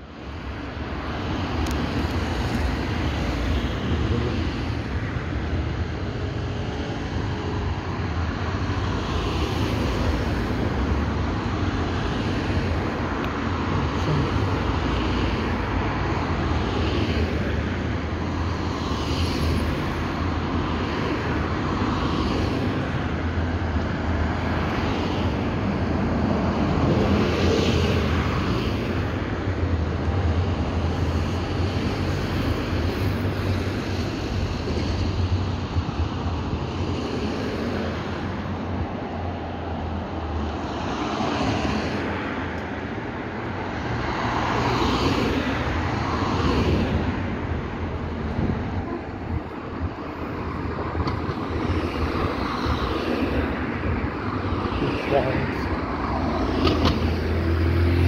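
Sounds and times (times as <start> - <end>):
cars driving by: 0.0 - 58.0
low traffic rumble: 0.0 - 58.0.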